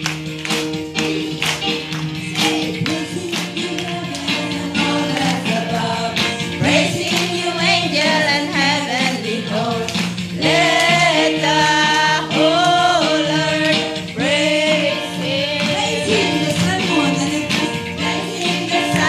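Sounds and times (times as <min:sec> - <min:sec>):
voices singing worship song: 0:02.1 - 0:19.0.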